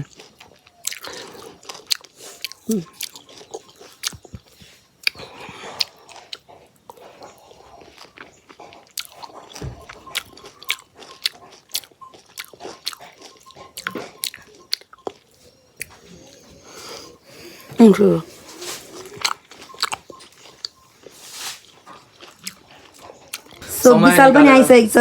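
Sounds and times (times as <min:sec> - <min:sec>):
person biting and chewing: 0:00.0 - 0:17.1, 0:18.5 - 0:23.6.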